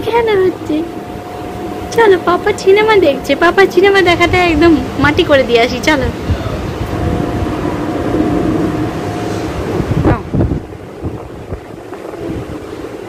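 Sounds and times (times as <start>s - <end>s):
air buffeting microphone: 0.0s - 13.0s.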